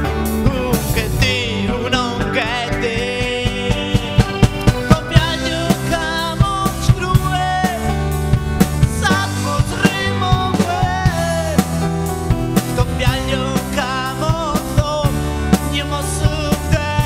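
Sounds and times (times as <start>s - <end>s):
drum kit beat: 0.0s - 17.0s
live rock band playing: 0.0s - 17.0s.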